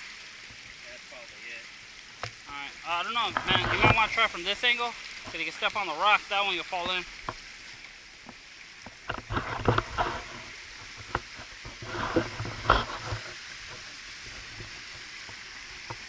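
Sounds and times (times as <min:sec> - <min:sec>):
small stream running: 0:00.0 - 0:16.0.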